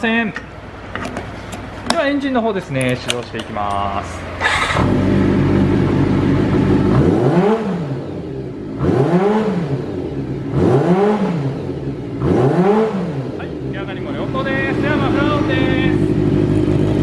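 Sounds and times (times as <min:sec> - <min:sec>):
motorcycle engine idling and revving: 0:03.3 - 0:17.0.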